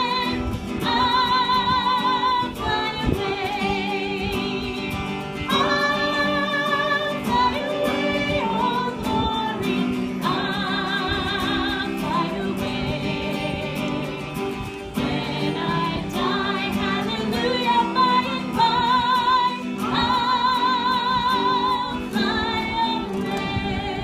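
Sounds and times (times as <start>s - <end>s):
person singing with vibrato: 0.0s - 24.0s.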